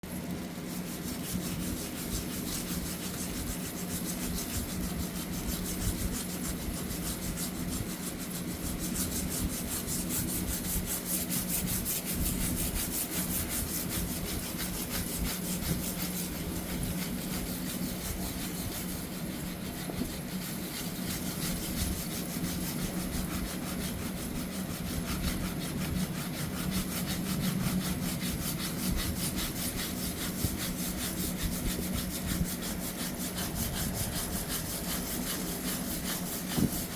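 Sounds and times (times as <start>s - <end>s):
steel wool scouring a surface: 0.4s - 36.9s.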